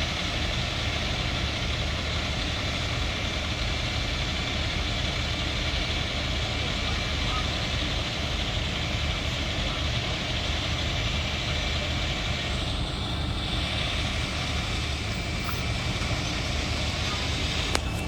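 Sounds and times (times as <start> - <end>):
heavy vehicle engine idling: 0.0 - 18.0.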